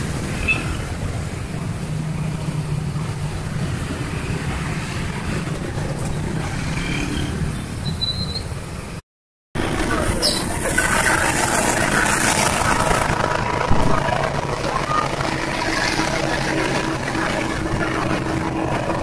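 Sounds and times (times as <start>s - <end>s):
road traffic rumble: 0.0s - 9.0s, 9.6s - 19.0s.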